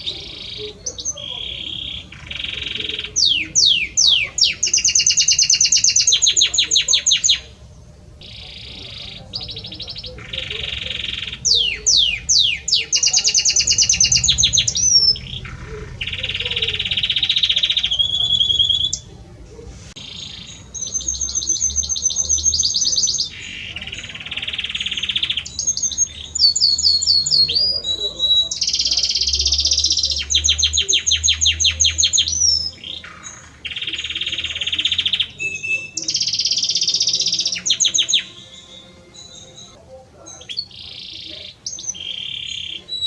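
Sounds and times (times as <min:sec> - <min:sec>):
canary singing: 0:00.0 - 0:43.0.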